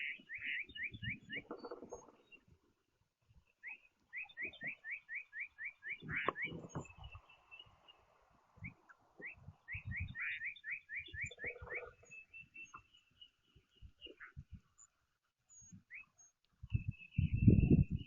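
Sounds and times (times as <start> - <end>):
songbird singing upslurred notes: 0.0 - 18.0.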